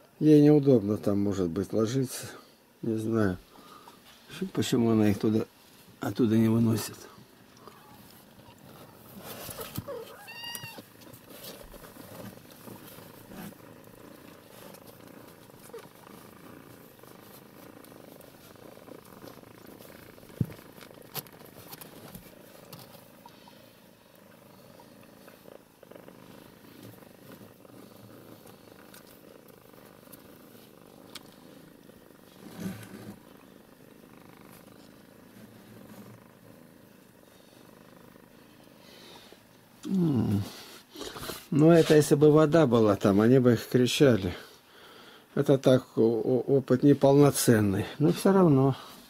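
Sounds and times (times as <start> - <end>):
cats purring: 0.0 - 49.0.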